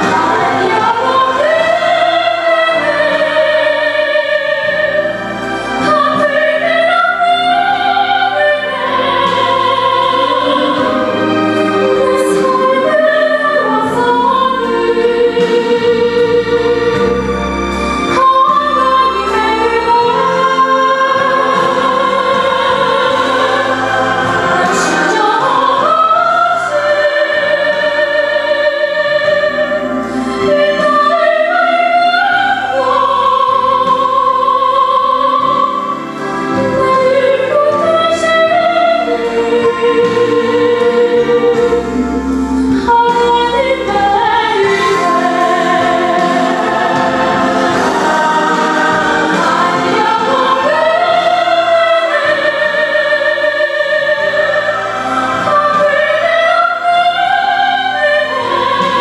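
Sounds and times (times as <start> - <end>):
woman singing operatically: 0.0 - 17.2, 18.1 - 59.0.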